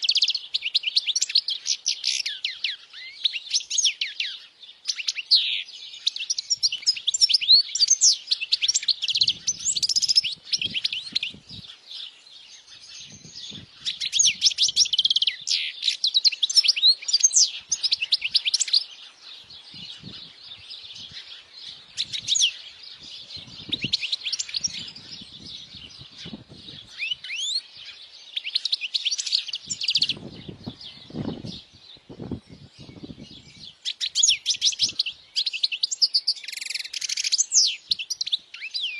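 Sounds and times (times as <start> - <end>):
finch twittering song: 0.0 - 38.9.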